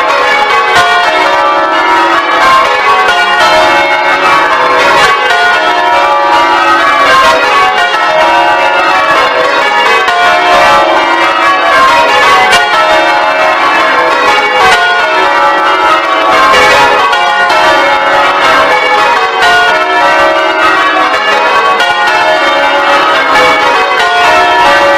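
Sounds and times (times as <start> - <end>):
church bells change ringing: 0.0 - 24.9.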